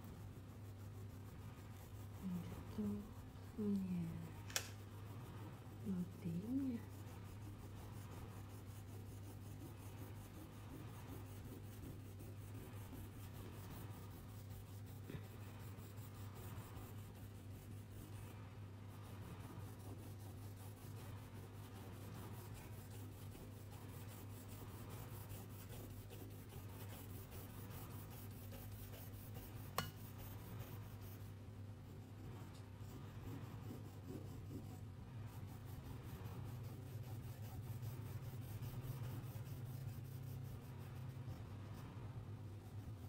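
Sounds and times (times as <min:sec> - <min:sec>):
colouring strokes on paper: 0:00.0 - 0:43.0
steady low hum: 0:00.0 - 0:43.0.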